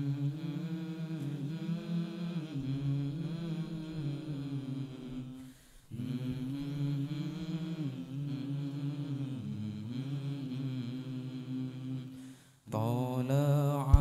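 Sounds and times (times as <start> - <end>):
voices chanting devotional song: 0.0 - 14.0.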